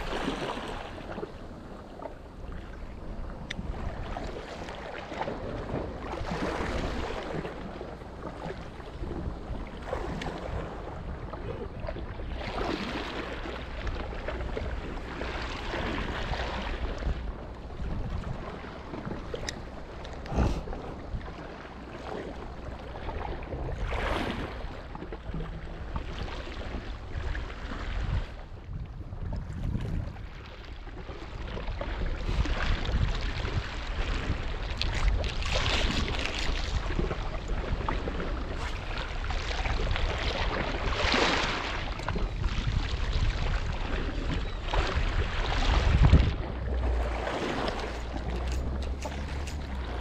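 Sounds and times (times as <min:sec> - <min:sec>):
water lapping and sloshing: 0:00.0 - 0:50.0
wind buffeting microphone: 0:00.0 - 0:50.0.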